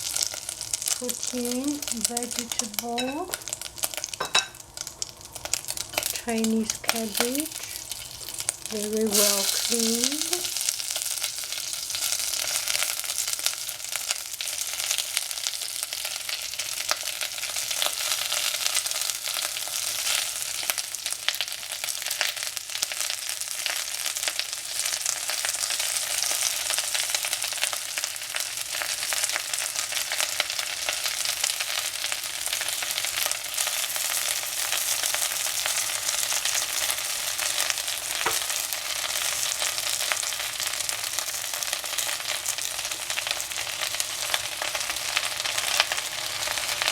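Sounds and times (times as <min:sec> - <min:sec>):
cabbage sizzling in hot oil: 0:00.0 - 0:46.9.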